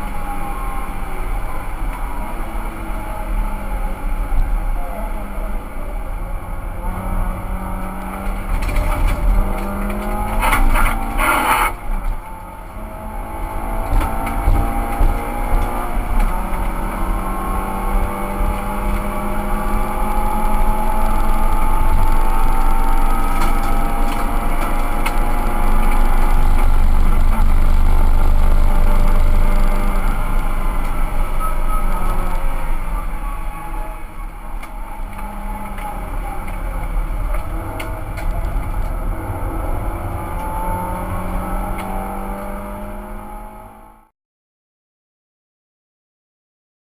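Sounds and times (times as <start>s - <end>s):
race car engine accelerating: 0.0s - 44.1s.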